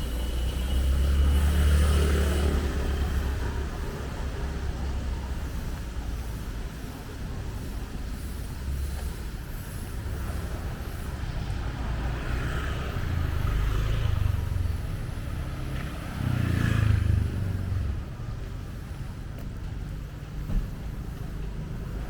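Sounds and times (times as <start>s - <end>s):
low traffic rumble: 0.0s - 22.0s
vehicles passing: 0.0s - 22.0s.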